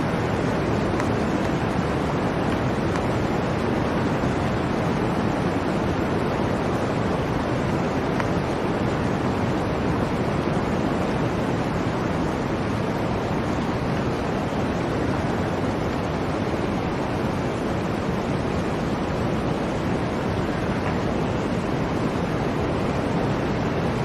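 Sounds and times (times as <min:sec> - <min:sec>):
blizzard wind rushing: 0:00.0 - 0:24.0.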